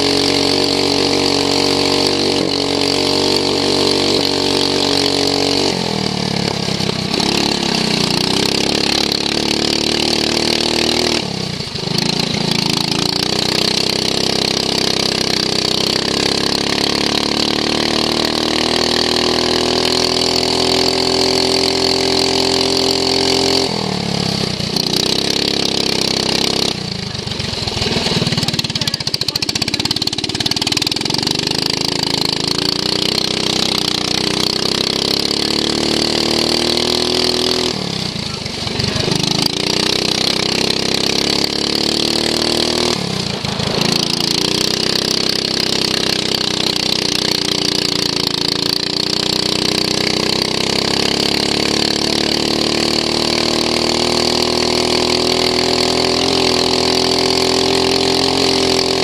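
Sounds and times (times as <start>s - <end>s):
lawn mower engine revving: 0.0s - 59.0s.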